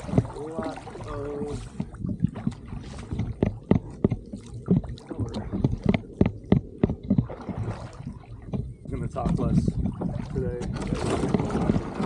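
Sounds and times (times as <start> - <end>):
oar blades dipping into water: 0.0 - 12.0
oars knocking in oarlocks: 0.0 - 12.0.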